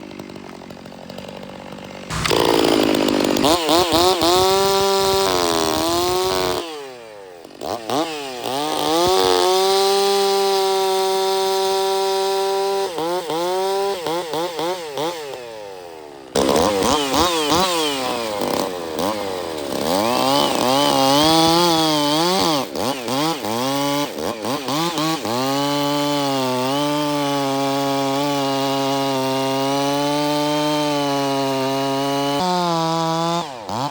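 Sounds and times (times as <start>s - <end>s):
chainsaw revving and cutting wood: 0.0s - 33.9s.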